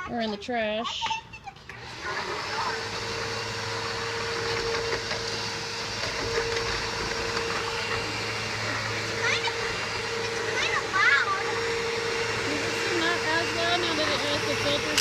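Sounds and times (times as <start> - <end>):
vacuum cleaner running: 1.7 - 15.0.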